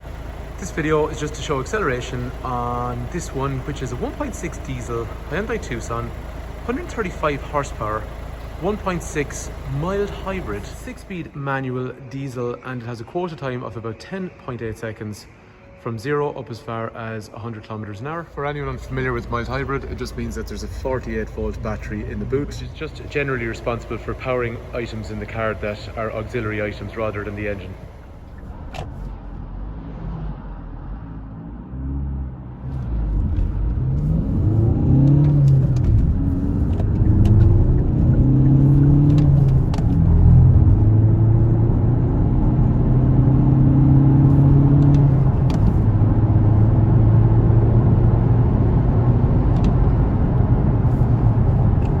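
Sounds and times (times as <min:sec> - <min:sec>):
diesel engine accelerating: 0:00.0 - 0:12.6, 0:17.4 - 0:52.0.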